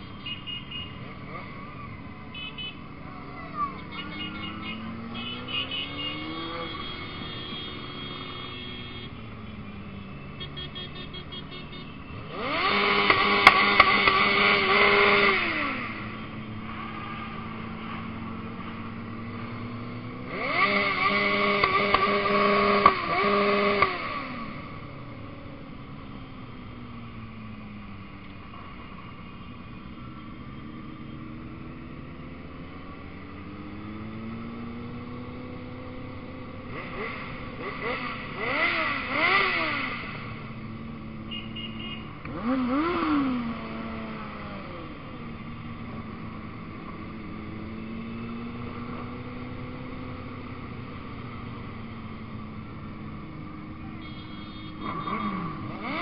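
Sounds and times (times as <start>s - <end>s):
motorcycle engine revving: 0.0s - 28.2s, 29.7s - 56.0s
motorcycle engines running: 0.0s - 56.0s.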